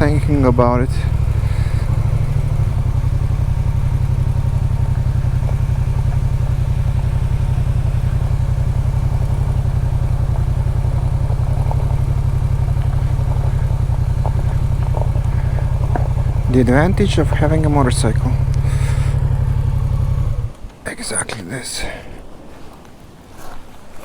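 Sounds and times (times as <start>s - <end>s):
motorcycle engine rumbling: 0.0s - 21.2s.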